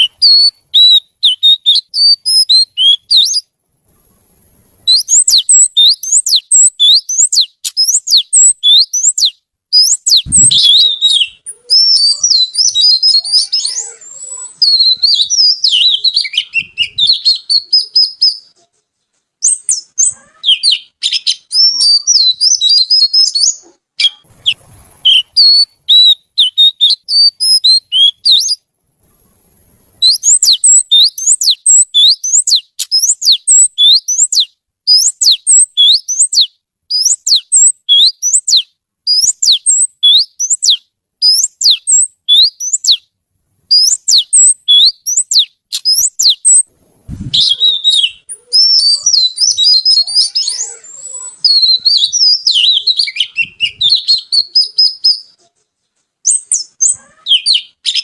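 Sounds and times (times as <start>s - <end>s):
bird singing whistled notes: 0.0s - 3.5s, 4.8s - 18.6s, 19.4s - 28.6s, 30.0s - 43.1s, 43.7s - 55.4s, 56.2s - 58.0s.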